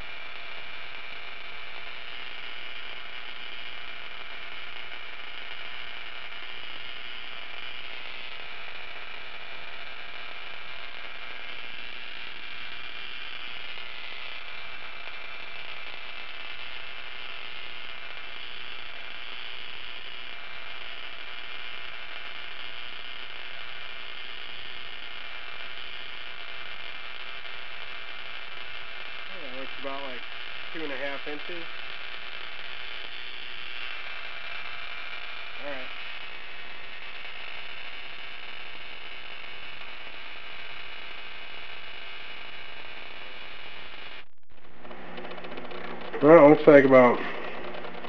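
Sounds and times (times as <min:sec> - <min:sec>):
electrical hum: 0:00.0 - 0:48.0
tesla coil sparks sizzling: 0:00.0 - 0:48.0.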